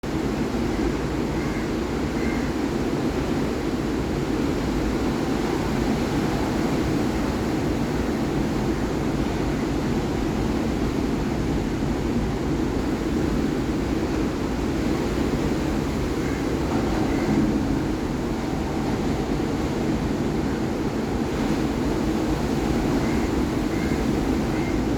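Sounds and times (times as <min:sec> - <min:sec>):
sea waves rumbling surf: 0:00.1 - 0:24.9.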